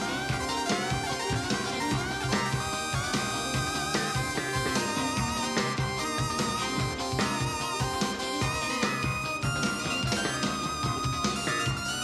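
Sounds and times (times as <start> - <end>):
keytar synthesizer notes: 0.0 - 12.0
steady drum beat: 0.0 - 12.0.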